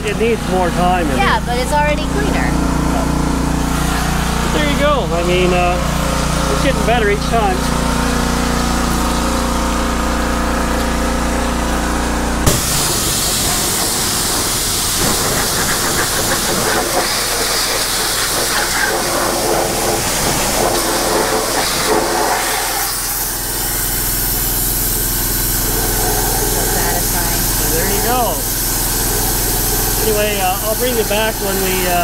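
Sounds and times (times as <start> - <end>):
pressure washer motor running: 0.0 - 32.0
pressure washer jet hissing: 0.1 - 32.0.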